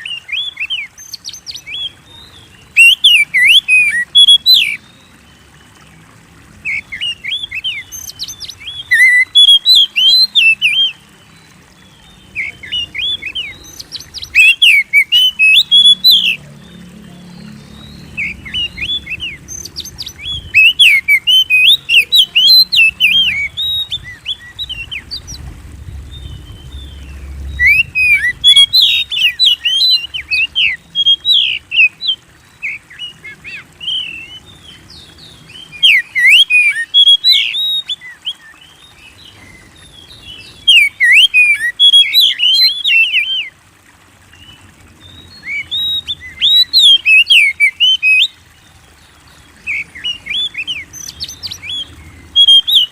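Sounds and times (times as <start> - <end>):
magpie-robin singing whistled notes: 0.0 - 4.8, 6.7 - 11.0, 11.9 - 16.4, 17.3 - 25.4, 26.1 - 43.5, 45.2 - 48.4, 49.6 - 52.9.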